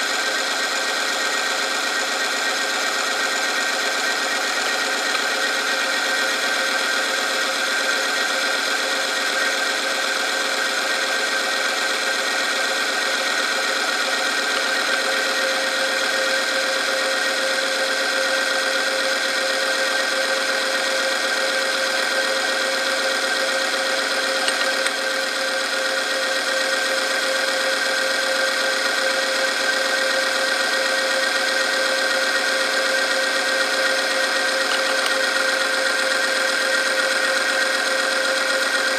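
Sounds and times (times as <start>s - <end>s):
machine whine with metal rubbing: 0.0s - 30.4s, 31.0s - 38.9s.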